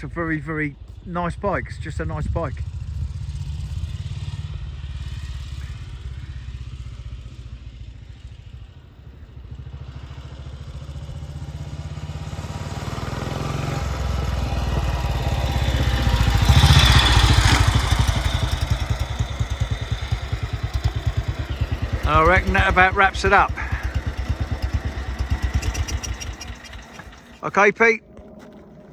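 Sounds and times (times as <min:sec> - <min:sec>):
motorcycle engine passing by: 0:01.8 - 0:28.9.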